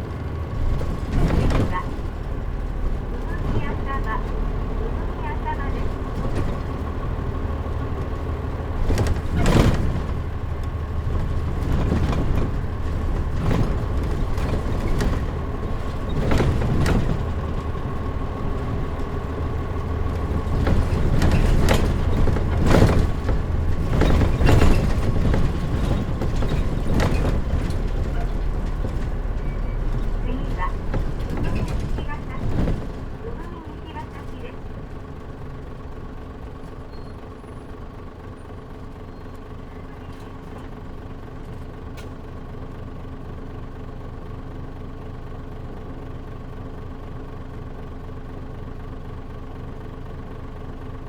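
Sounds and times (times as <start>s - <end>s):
bus body knocking and rattling: 0.0s - 51.0s
bus engine running: 0.0s - 51.0s.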